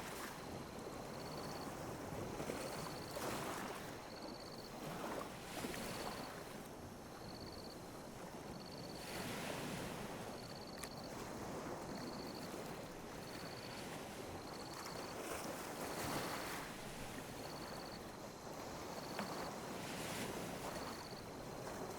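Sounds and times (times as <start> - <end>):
small waves lapping ashore: 0.0 - 21.9.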